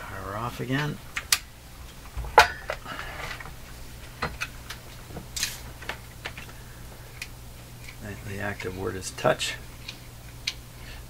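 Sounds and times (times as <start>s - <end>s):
low mains hum: 0.0s - 11.0s.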